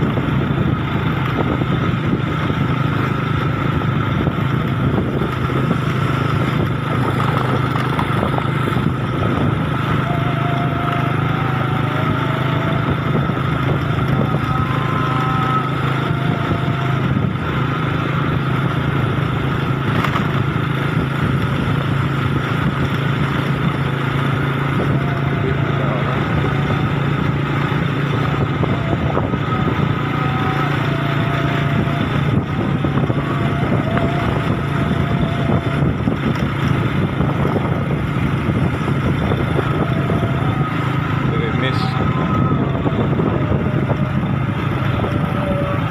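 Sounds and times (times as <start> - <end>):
motorcycle engine running: 0.0 - 45.9
road and wind noise: 0.0 - 45.9.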